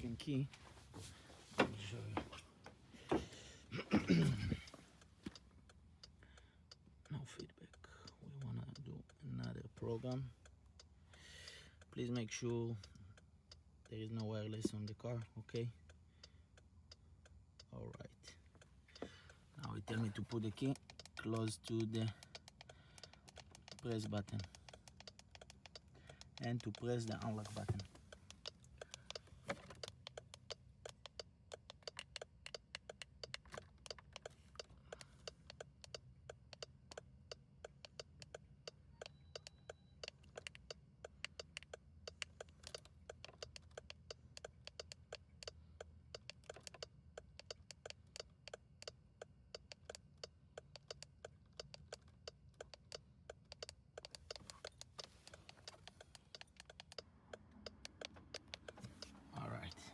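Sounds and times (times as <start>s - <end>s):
rapid irregular clicking: 11.8s - 59.9s.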